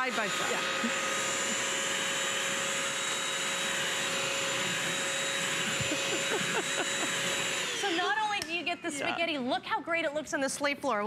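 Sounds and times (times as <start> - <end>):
wet-dry vacuum whining: 0.0 - 9.1.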